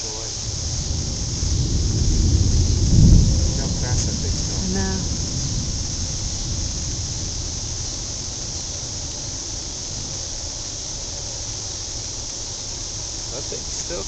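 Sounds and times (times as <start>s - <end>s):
steady high hiss: 0.0s - 14.0s
storm wind buffeting microphone: 0.0s - 14.0s.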